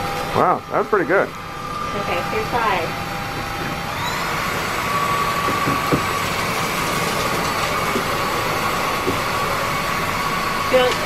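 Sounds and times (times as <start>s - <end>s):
vacuum motor whine: 0.0s - 11.0s.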